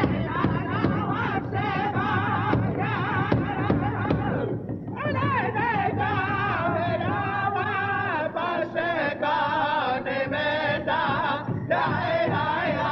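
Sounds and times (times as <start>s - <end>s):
voices singing together: 0.0s - 12.9s.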